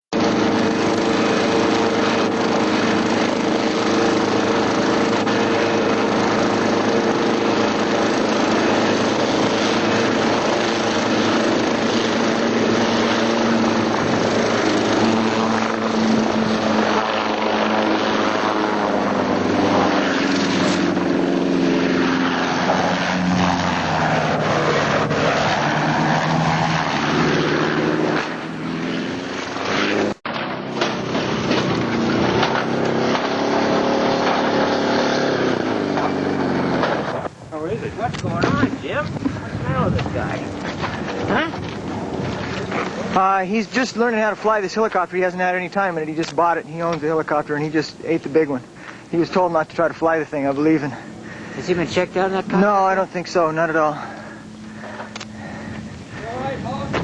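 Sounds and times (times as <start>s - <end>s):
helicopter engine and rotor: 0.1s - 47.1s, 47.9s - 56.9s.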